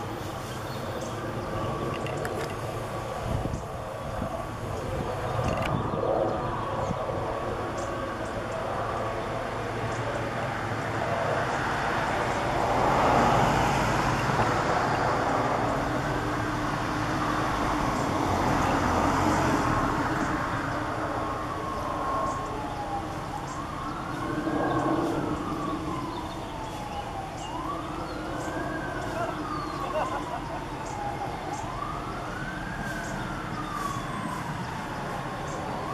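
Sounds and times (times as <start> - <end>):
emergency siren wailing: 0.0 - 35.9.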